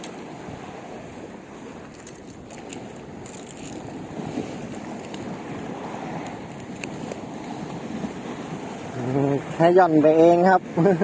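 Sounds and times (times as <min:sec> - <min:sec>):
water washing on shore: 0:00.0 - 0:11.0
wind buffeting microphone: 0:00.0 - 0:11.0.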